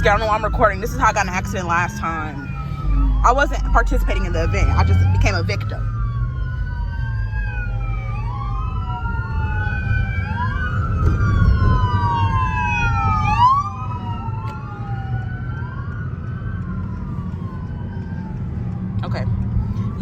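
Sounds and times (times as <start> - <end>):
police sirens wailing: 0.0 - 20.0.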